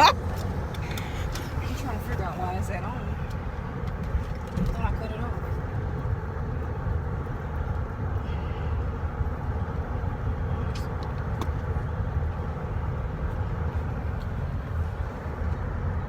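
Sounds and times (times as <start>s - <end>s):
car road noise: 0.0s - 16.0s.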